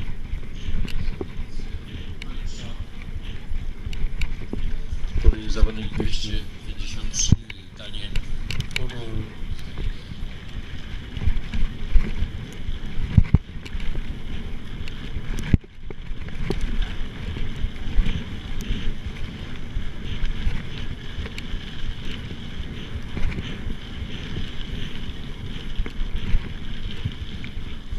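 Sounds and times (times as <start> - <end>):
bike knocking and rattling: 0.0 - 27.9
bike tyres rumbling on gravel: 0.0 - 27.9
wind buffeting microphone: 0.0 - 27.9.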